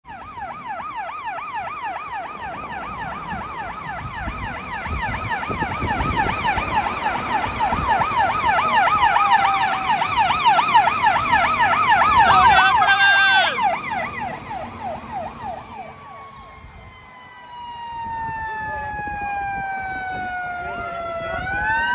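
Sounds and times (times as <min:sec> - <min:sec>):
fire engine siren yelping: 0:00.0 - 0:21.9.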